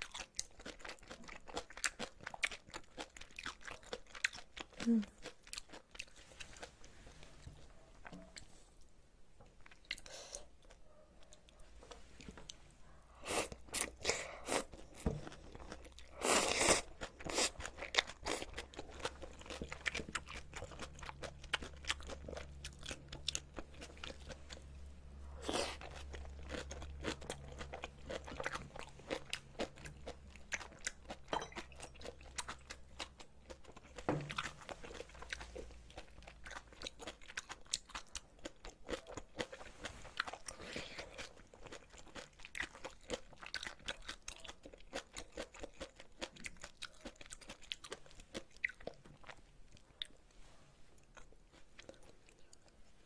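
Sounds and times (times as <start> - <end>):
crunching and chewing: 0.0 - 53.0.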